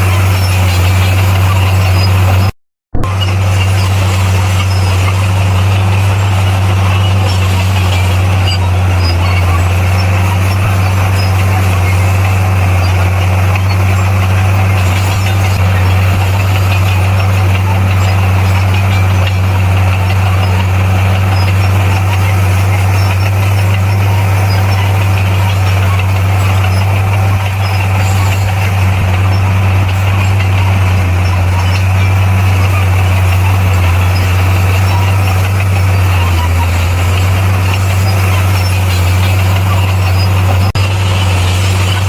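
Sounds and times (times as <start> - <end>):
bulldozer diesel engine humming: 0.0 - 42.0.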